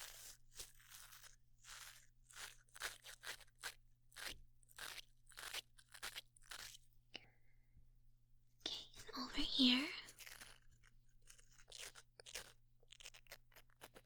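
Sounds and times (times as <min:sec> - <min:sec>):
crisp scratchy strokes: 0:00.0 - 0:06.8, 0:08.7 - 0:14.0.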